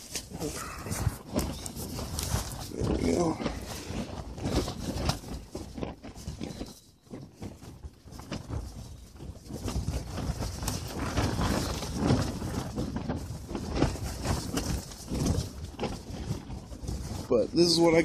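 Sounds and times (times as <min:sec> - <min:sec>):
fabric walls flapping in wind: 0:00.0 - 0:18.0
wind rumble on microphone: 0:00.0 - 0:18.0.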